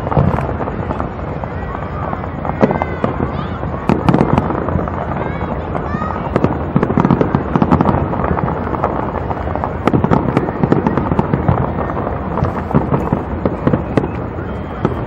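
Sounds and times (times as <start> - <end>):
crackling firework effects: 0.0 - 15.0
firework cracks and bangs: 0.0 - 15.0
steady rumble: 0.0 - 15.0.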